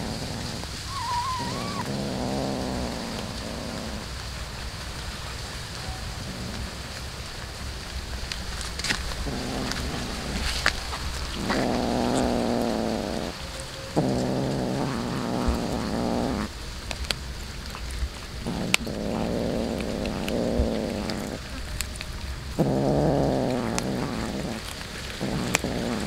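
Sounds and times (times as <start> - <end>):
cat crunching fish: 0.0 - 13.4, 14.0 - 26.0
cat chewing wetly: 0.0 - 26.0
cat rumbling: 0.0 - 26.0.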